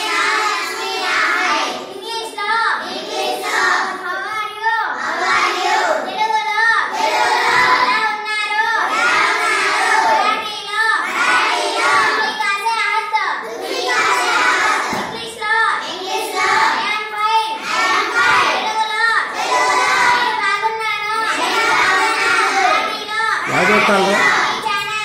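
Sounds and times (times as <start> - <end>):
children chanting: 0.0 - 4.2, 4.9 - 12.6, 13.4 - 25.0.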